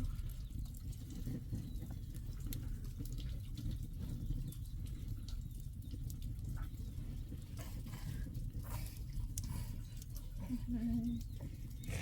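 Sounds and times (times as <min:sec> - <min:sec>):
rain falling: 0:00.0 - 0:12.0
sharp drips: 0:00.0 - 0:12.0.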